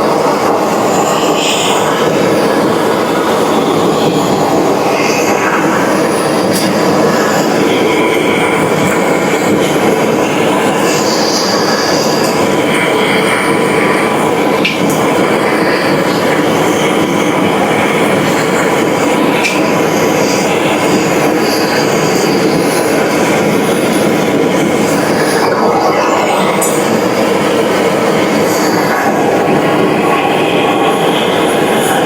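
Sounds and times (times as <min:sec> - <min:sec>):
loud machine noise: 0:00.0 - 0:32.0.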